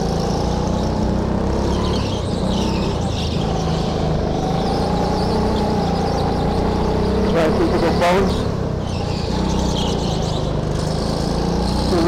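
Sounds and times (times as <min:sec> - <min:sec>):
go-kart motor running: 0:00.0 - 0:12.0.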